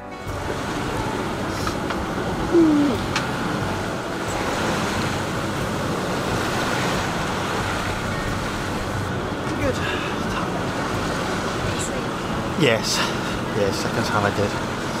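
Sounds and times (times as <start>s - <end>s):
boat engine drone: 0.0s - 15.0s
water rushing: 0.0s - 15.0s
wind: 0.0s - 15.0s.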